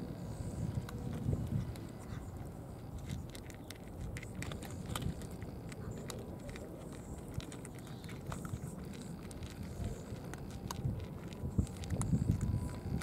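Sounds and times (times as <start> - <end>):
cats crunching dry kibble: 0.0 - 13.0
low background rumble: 0.0 - 13.0.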